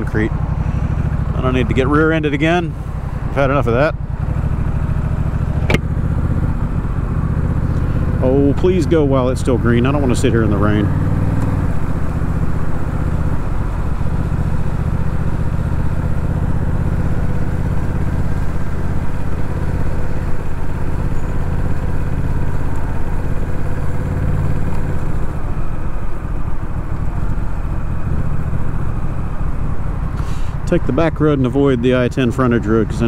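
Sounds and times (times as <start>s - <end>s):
motorcycle engine running: 0.0s - 33.0s
road and wind noise: 0.0s - 33.0s.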